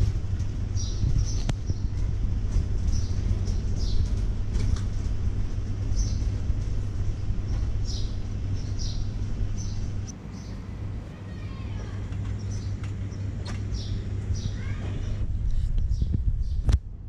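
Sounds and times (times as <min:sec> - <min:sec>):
steady low rumble: 0:00.0 - 0:17.0
small birds chirping: 0:00.6 - 0:16.8.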